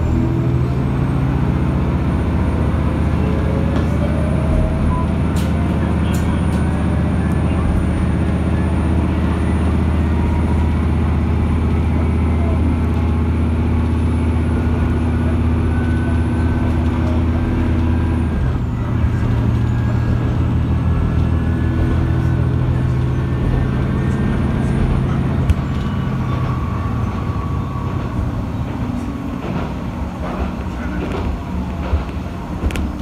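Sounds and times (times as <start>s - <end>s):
diesel railcar engine drone: 0.0s - 33.0s.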